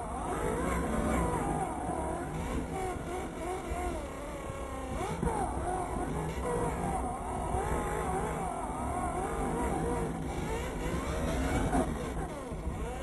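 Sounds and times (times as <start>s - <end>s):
low rumble of driving on dirt: 0.0s - 13.0s
rc truck motor whining: 0.0s - 13.0s.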